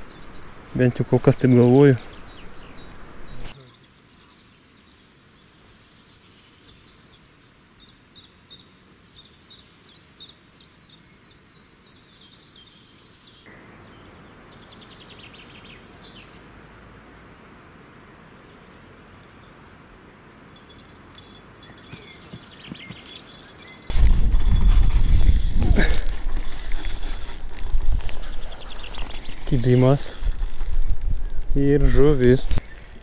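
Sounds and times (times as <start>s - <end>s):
songbird chirping and trilling: 0.0s - 16.5s, 20.6s - 33.0s
steady outdoor hiss: 0.0s - 33.0s.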